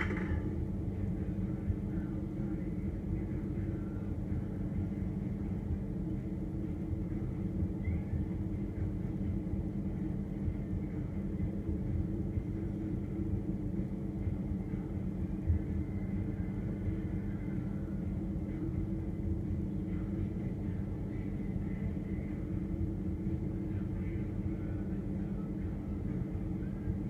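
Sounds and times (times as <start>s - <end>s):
refrigerator humming: 0.0s - 27.0s.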